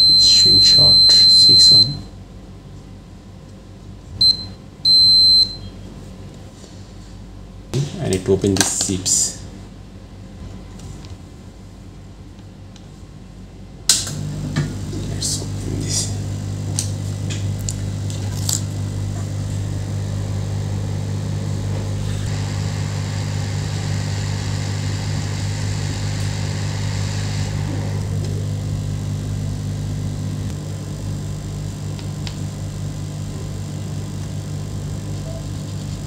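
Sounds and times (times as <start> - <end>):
hot-air station low hum: 0.0 - 36.0.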